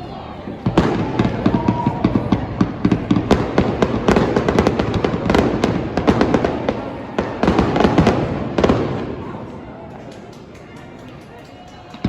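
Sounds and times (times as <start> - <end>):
fireworks bangs and crackles: 0.1 - 10.1.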